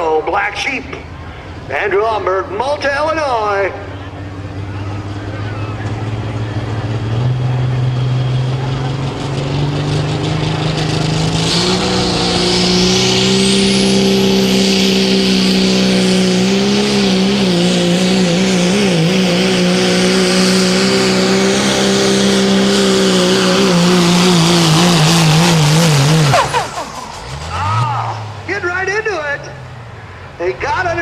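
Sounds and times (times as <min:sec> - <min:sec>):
diesel engine at high revs: 0:00.0 - 0:31.0.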